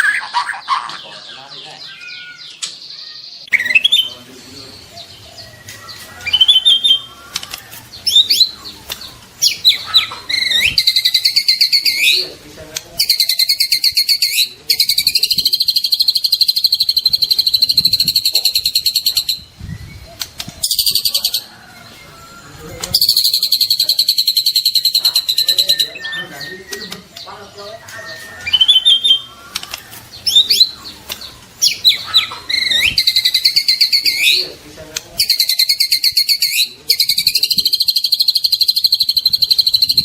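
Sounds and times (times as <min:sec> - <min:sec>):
songbird singing trills: 0:00.0 - 0:40.0.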